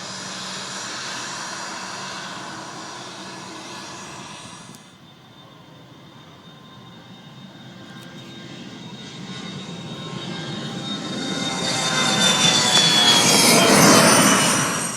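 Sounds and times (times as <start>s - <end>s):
jet engines whining: 0.0s - 14.9s.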